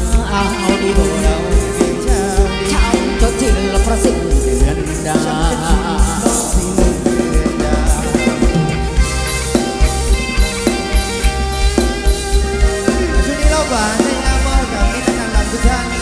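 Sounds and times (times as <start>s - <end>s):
live band dance music: 0.0s - 16.0s.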